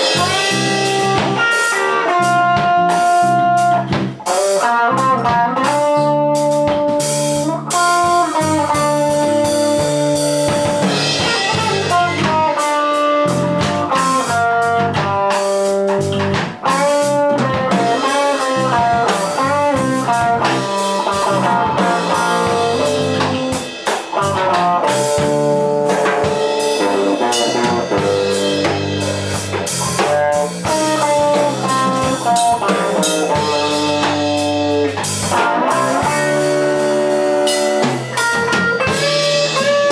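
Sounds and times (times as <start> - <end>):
blues band playing: 0.0 - 39.9.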